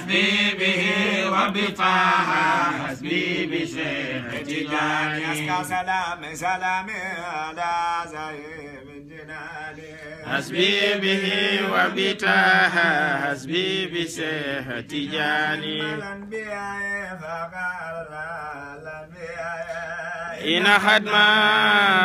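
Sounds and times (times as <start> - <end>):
devotional chanting: 0.0 - 22.0.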